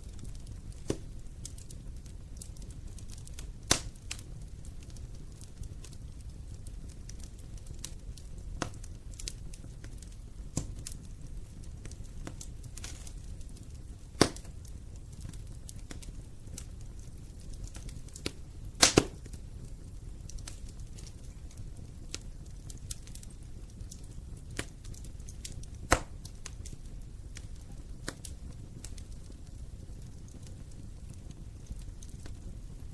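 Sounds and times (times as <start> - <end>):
fire popping: 0.0 - 32.9
low rumble of flames: 0.0 - 32.9
wood fire crackling: 0.0 - 32.9.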